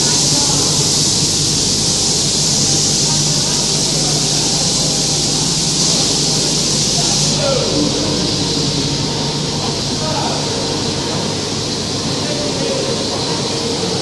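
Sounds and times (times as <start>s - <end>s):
abrasive blast jet hissing: 0.0s - 14.0s
low machine hum: 0.0s - 14.0s.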